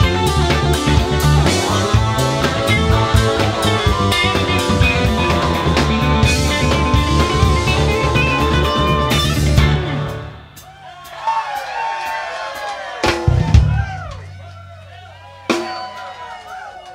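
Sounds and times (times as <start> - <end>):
live rock band playing: 0.0 - 16.8.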